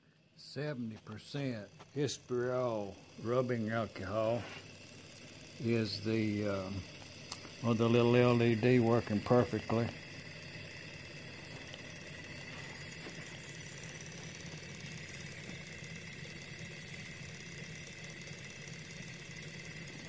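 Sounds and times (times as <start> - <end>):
small engine mechanical whir: 0.0 - 20.0.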